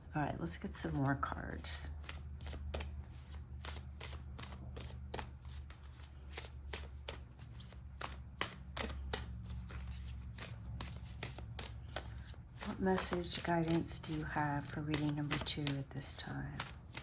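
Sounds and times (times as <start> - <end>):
cards being shuffled by hand: 1.9 - 17.0.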